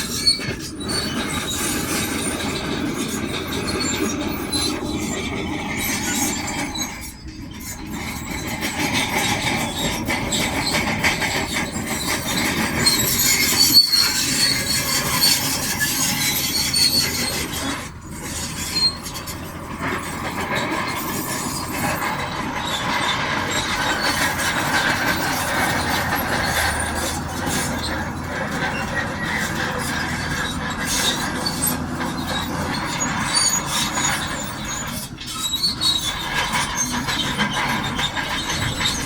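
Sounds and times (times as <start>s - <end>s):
bulldozer engine: 0.0s - 39.0s
steel tracks squealing and clanking: 0.0s - 39.0s.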